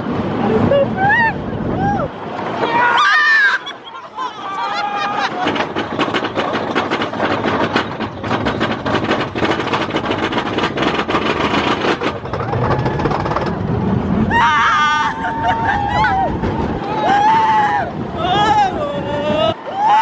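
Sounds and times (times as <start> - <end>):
roller coaster rattling on track: 0.0 - 20.0.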